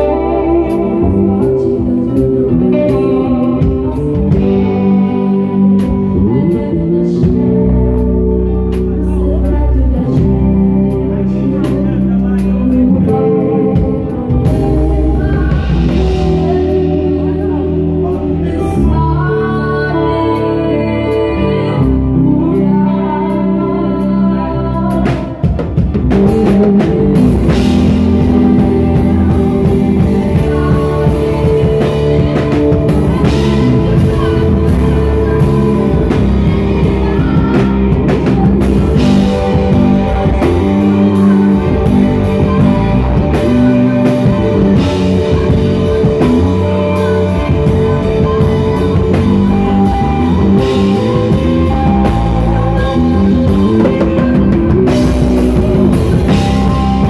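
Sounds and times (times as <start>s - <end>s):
drums: 0.0s - 57.0s
person singing: 0.0s - 57.0s
worship band playing: 0.0s - 57.0s.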